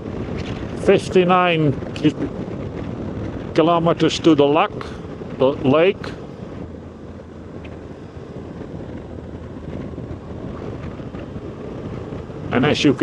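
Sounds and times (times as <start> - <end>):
motorcycle engine drone: 0.0 - 13.0
wind rushing over microphone: 0.0 - 13.0.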